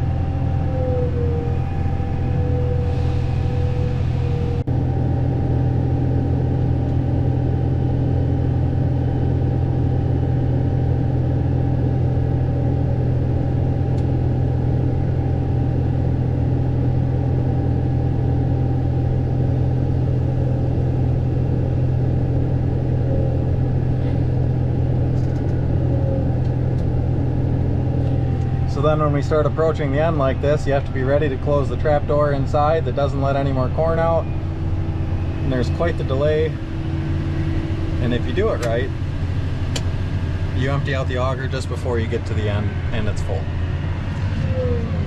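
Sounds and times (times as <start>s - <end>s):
tractor engine low drone: 0.0s - 45.0s.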